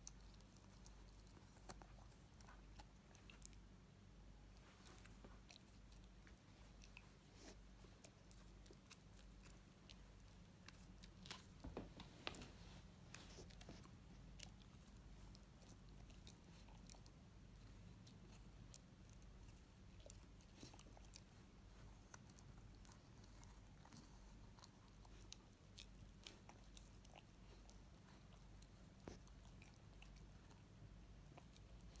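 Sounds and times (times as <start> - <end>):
puppy gnawing hard fruit: 0.0 - 3.8, 4.5 - 32.0.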